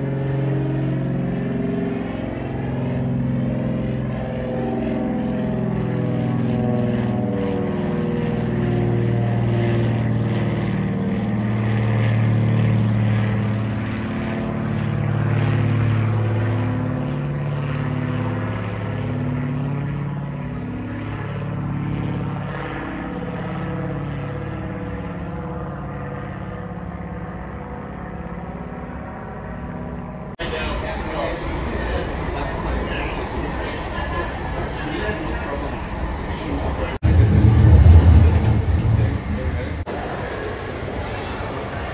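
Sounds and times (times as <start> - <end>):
propeller airplane droning overhead: 0.0 - 41.9.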